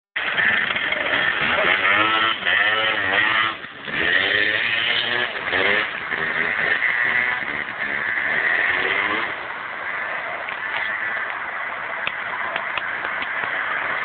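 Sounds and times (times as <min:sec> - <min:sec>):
motorcycle engine revving: 0:00.2 - 0:14.0.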